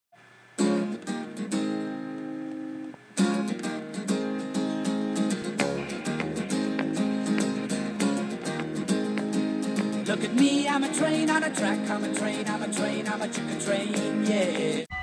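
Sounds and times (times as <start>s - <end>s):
strummed acoustic guitar: 0.6s - 15.0s.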